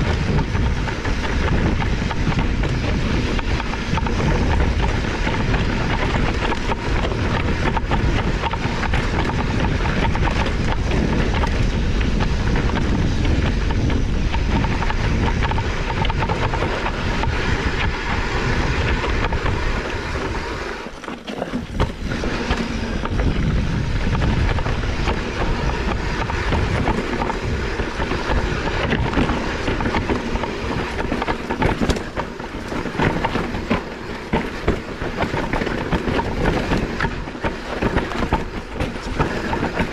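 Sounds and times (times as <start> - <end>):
bike rattling over rocky ground: 0.0 - 39.9.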